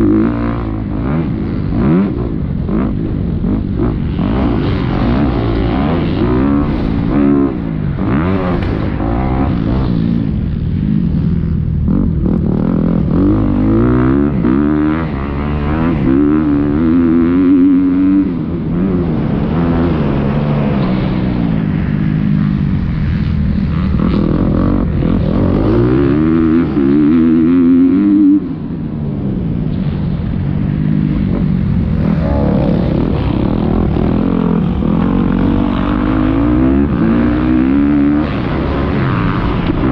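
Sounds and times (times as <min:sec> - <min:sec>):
motocross bike engine revving: 0:00.0 - 0:28.7, 0:31.0 - 0:39.9.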